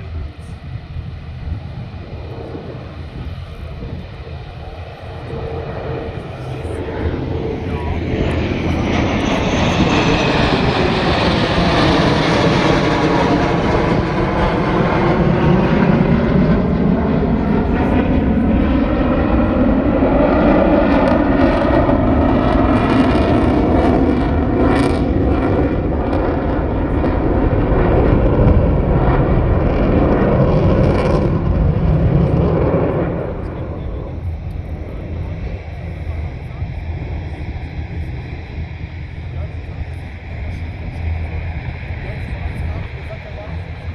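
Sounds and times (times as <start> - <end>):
airplane engines passing: 0.0 - 43.9.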